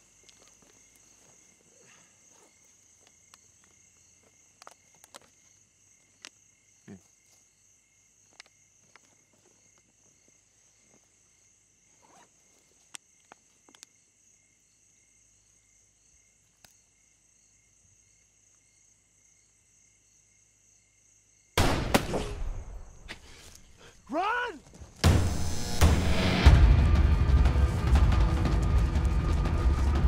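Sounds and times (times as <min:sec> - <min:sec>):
crickets chirring: 0:00.0 - 0:25.8.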